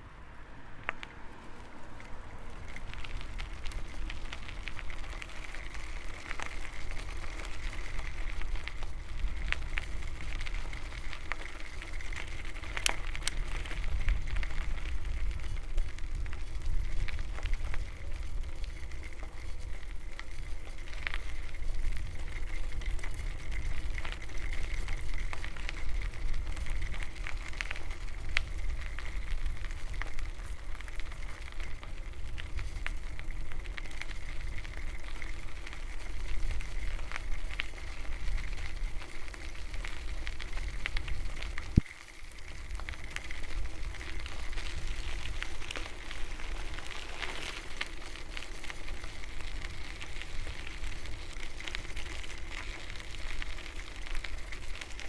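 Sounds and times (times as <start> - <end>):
bicycle tyres rumbling: 0.0 - 55.0
bicycle clicks and rattles: 0.8 - 55.0.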